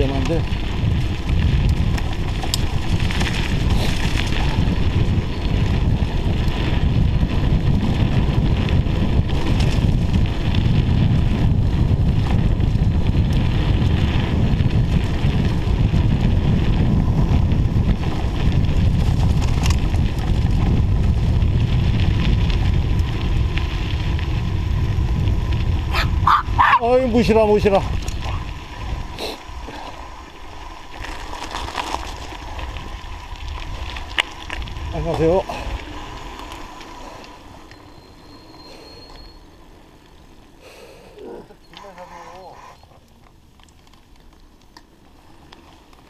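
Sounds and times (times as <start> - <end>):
wind buffeting microphone: 0.0 - 41.7
bicycle riding noise: 0.0 - 46.0.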